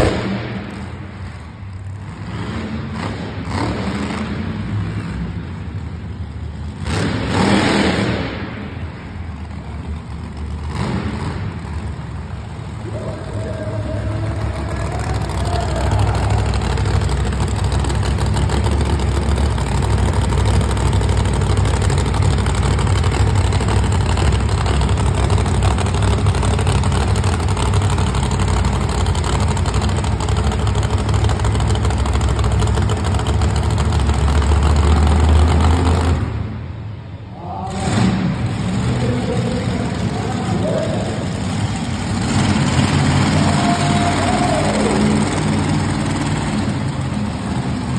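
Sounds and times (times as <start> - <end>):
truck engine running loud: 0.0 - 47.9.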